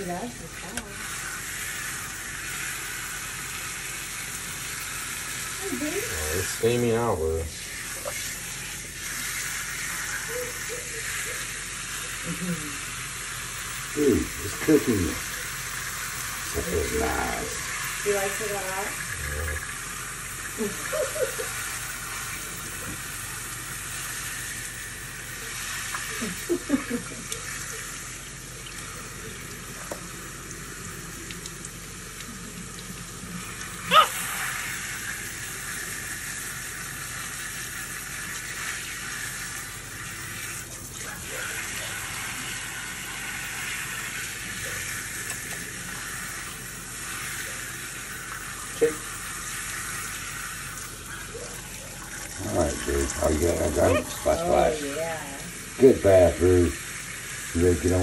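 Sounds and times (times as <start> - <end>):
faucet spraying water into sink: 0.0 - 58.0.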